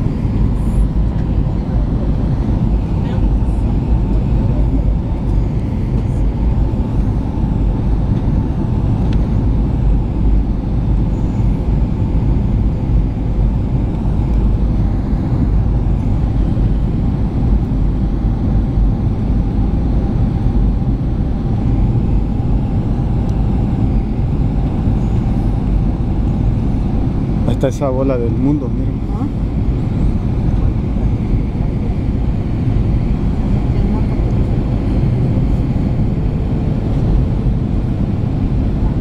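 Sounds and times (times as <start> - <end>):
faint steady whine: 0.0 - 39.0
jet engines and rushing air: 0.0 - 39.0.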